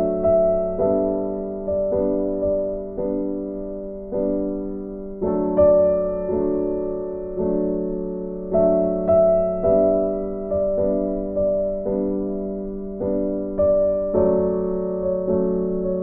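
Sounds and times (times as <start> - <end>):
soft electric piano chords: 0.0 - 16.0.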